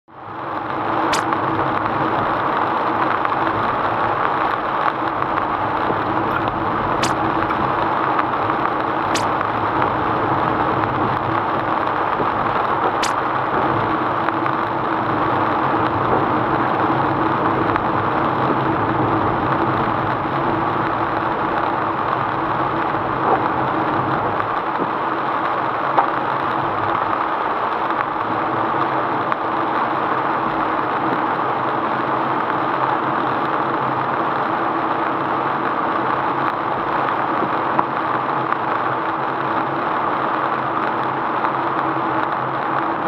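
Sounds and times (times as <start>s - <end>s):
rain drumming on car roof: 0.3s - 43.0s.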